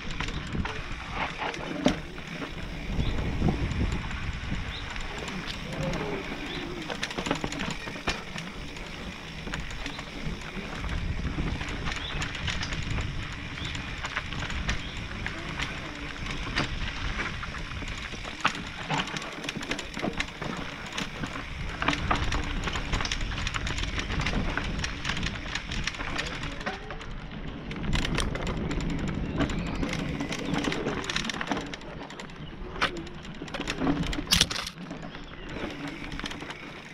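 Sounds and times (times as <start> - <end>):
bike rattling clicks and knocks: 0.0 - 36.9
tyre and trail noise: 0.0 - 36.9.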